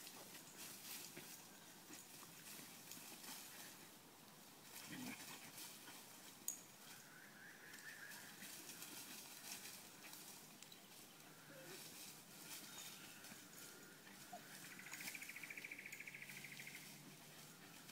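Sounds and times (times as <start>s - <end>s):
dog paws scampering on leaves: 0.0s - 7.1s, 7.7s - 17.9s.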